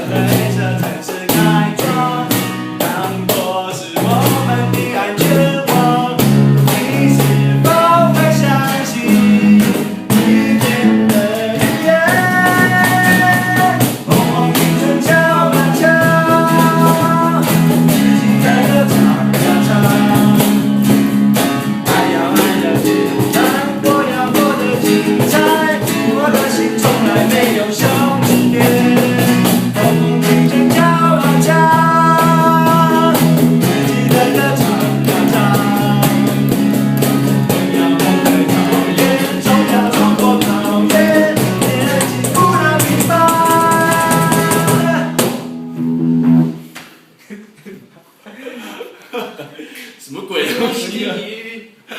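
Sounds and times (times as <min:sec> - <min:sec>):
band playing rock song: 0:00.0 - 0:45.5.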